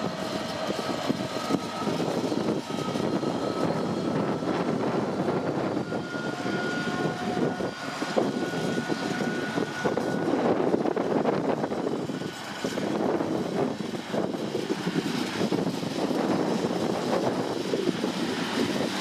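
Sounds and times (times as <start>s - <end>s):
high wheel squeal: 0.0s - 19.0s
steel wheels rumbling on rail: 0.0s - 19.0s.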